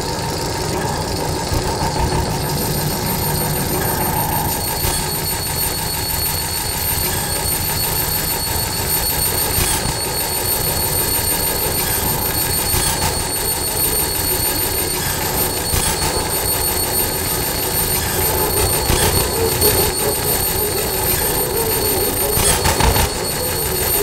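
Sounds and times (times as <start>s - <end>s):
electronic noise rumble and hiss: 0.0s - 24.0s.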